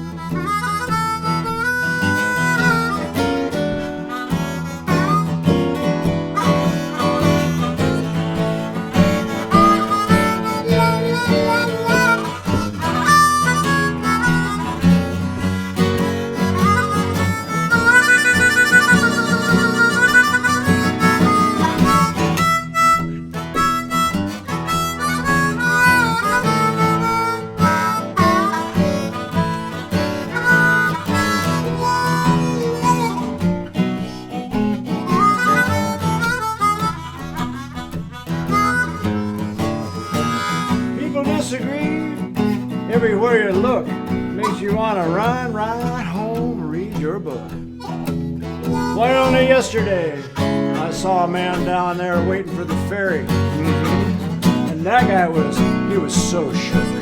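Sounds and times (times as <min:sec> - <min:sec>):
harmonica solo: 0:00.0 - 0:57.0
strummed acoustic guitar: 0:00.0 - 0:57.0.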